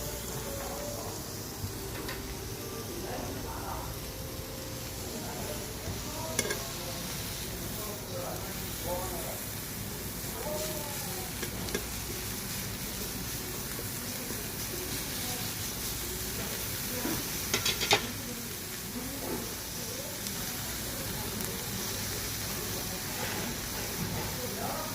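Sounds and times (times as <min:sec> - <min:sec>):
fried rice sizzling in a pan: 0:00.0 - 0:24.9.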